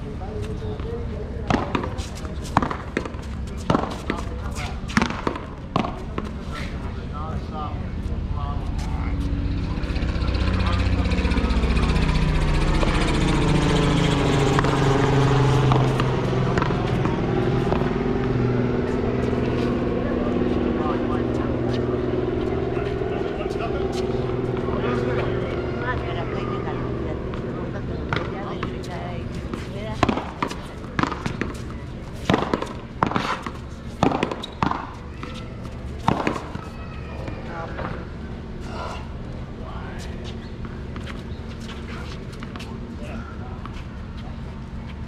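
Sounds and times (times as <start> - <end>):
vehicle engine droning: 0.0 - 45.0.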